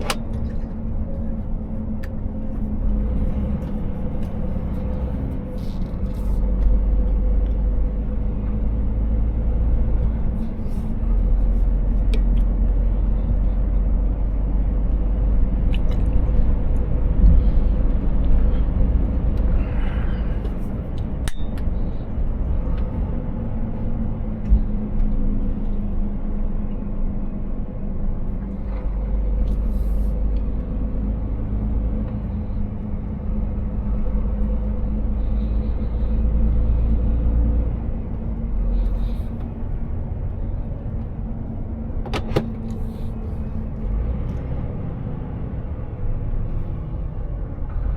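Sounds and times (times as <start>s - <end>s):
truck engine and road rumble: 0.0s - 47.9s.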